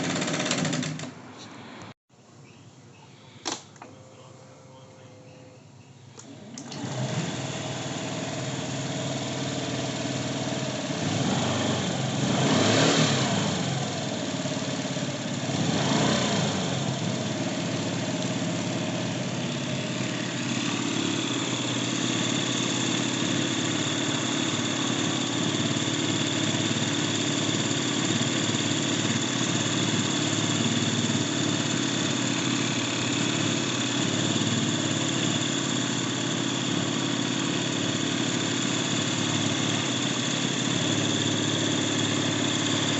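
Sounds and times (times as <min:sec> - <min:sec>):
scooter engine revving and idling: 0:00.0 - 0:01.1, 0:06.3 - 0:42.9.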